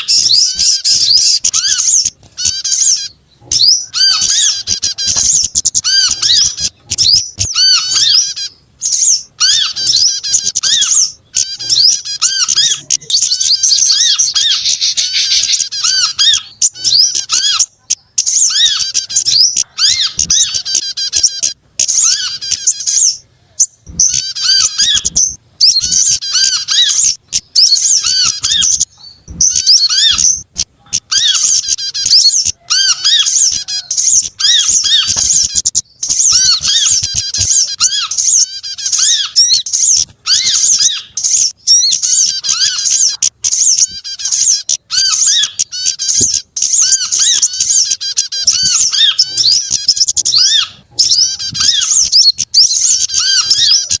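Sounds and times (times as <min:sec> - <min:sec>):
repeated lower bird call: 0:00.0 - 0:54.0
songbirds chattering chirps and trills: 0:00.0 - 0:54.0.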